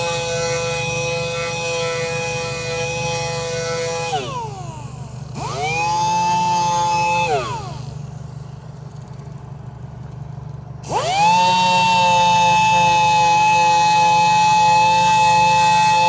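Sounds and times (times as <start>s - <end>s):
power sander whining: 0.0s - 16.0s.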